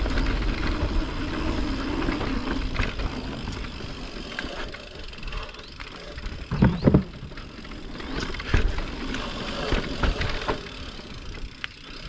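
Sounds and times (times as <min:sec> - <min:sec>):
bike knocking and rattling: 0:00.0 - 0:12.0
bike rolling over dirt trail: 0:00.0 - 0:12.0.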